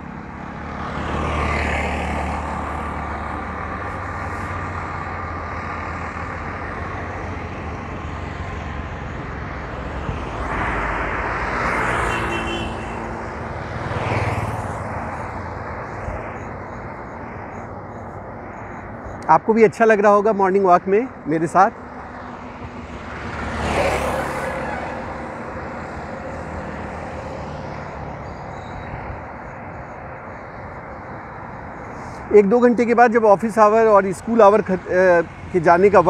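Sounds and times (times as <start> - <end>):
motorcycle passing: 0.0 - 19.1, 20.9 - 32.2
hum of engines and tyres: 0.0 - 36.0
vehicles passing: 0.0 - 36.0.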